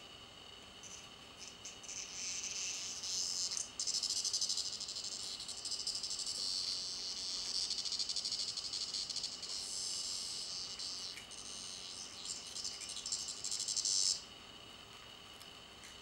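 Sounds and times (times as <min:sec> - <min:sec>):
cicada distress buzz: 0:00.8 - 0:14.4.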